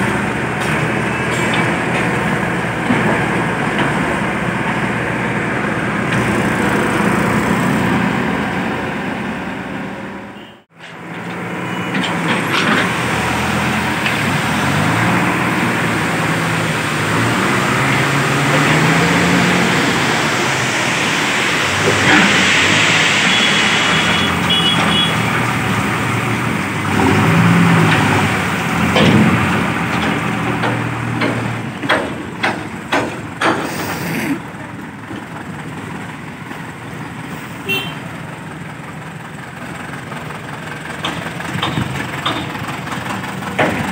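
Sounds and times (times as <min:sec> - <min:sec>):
diesel engine running under load: 0:00.0 - 0:43.9.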